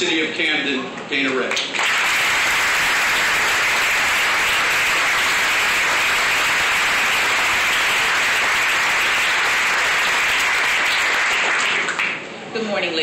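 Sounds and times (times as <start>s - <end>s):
audience applauding: 1.4s - 12.2s.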